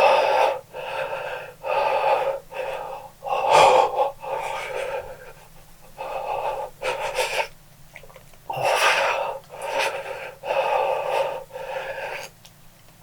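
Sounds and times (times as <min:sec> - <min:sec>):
man breathing hard: 0:00.0 - 0:07.6, 0:08.5 - 0:12.4.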